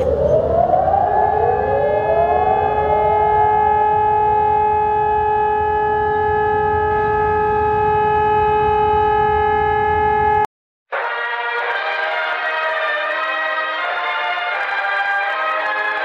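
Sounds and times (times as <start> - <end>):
civil defense siren: 0.0 - 16.0.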